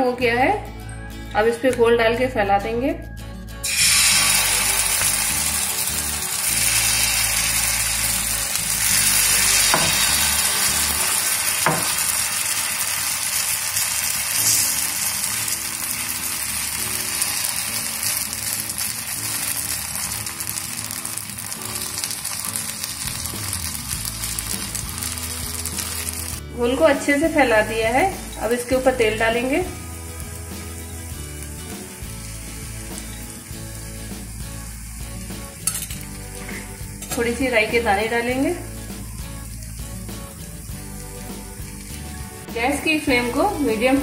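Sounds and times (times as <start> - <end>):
batter sizzling on griddle: 3.6 - 26.4, 27.0 - 44.0.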